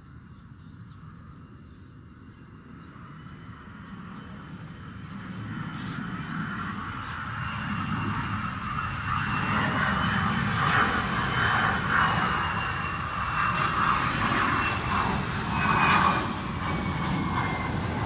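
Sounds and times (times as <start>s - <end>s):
aircraft rumble overhead: 0.0s - 18.0s
high aircraft whine: 0.0s - 18.0s.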